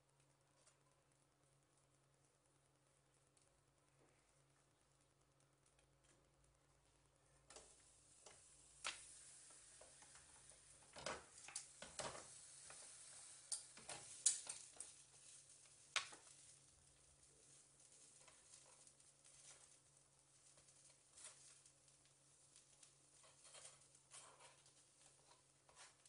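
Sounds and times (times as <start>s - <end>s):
faint sizzle: 0.0s - 26.0s.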